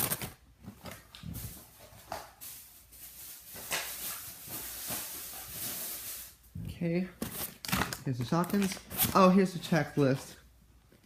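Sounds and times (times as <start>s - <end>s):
plastic packaging crinkling: 0.0s - 6.4s, 7.2s - 10.3s.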